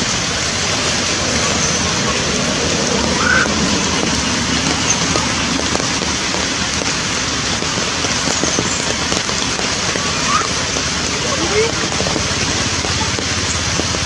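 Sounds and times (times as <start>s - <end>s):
rain on muddy ground: 0.0s - 14.0s.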